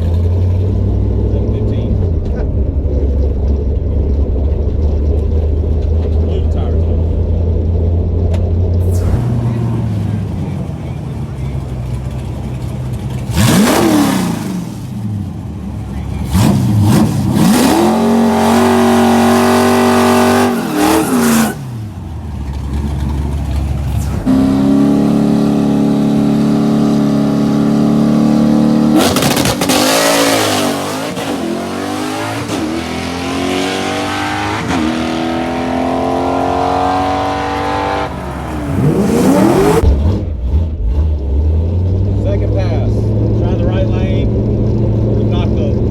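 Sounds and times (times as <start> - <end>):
drag car engine revving: 0.0 - 45.9.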